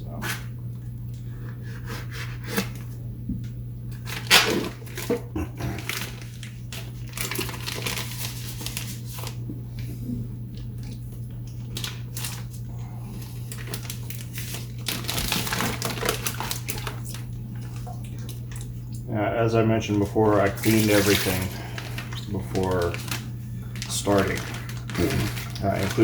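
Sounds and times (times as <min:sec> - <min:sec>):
steady low hum: 0:00.0 - 0:26.0
plastic wrapping crinkling: 0:03.9 - 0:09.4, 0:10.6 - 0:26.0.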